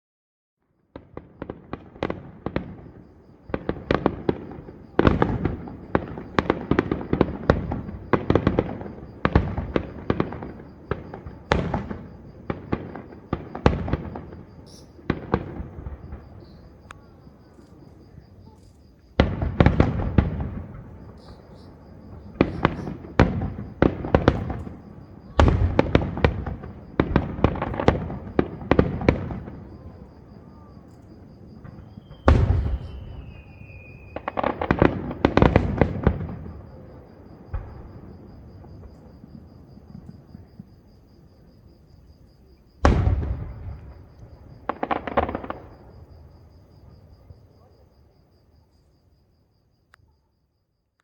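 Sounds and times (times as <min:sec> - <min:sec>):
heavy firework booms: 0:00.9 - 0:17.5, 0:19.1 - 0:41.8, 0:42.7 - 0:47.6
distant firework bangs: 0:00.9 - 0:18.3, 0:19.1 - 0:40.9, 0:42.8 - 0:47.9.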